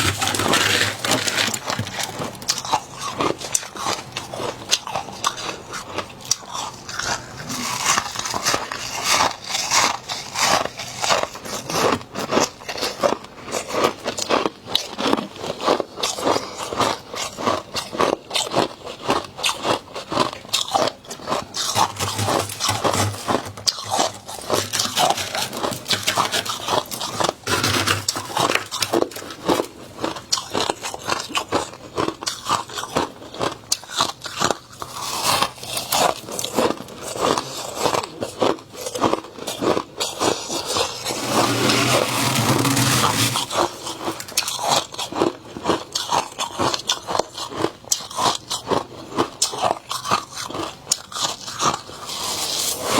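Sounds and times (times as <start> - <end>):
crunchy biting and chewing: 0.0 - 52.9.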